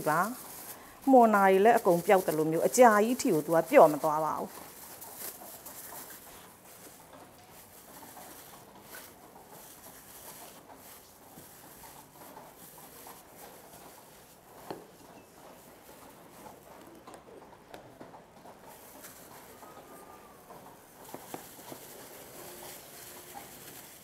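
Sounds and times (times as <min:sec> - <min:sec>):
gloved hands handling containers: 0:00.0 - 0:24.0.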